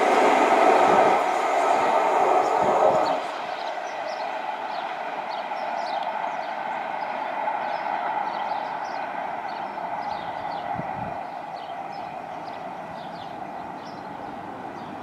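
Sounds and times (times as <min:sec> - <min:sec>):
birds chirping: 0:00.0 - 0:15.0
diesel train engine drone: 0:00.0 - 0:15.0.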